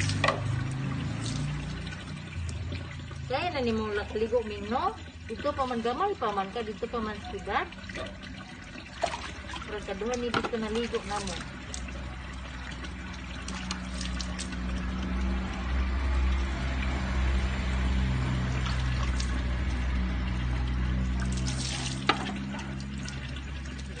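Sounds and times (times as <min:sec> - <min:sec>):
water splashing over a cat: 0:00.0 - 0:24.0.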